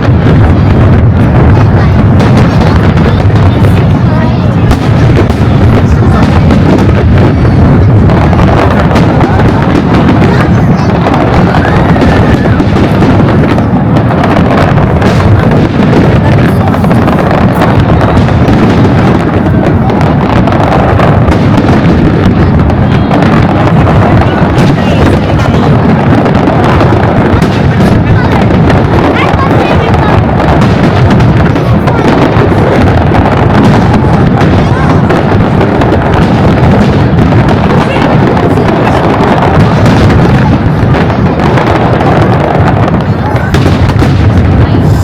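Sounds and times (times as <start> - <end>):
fireworks booming: 0.0 - 45.0
fireworks sharp cracks: 0.0 - 45.0.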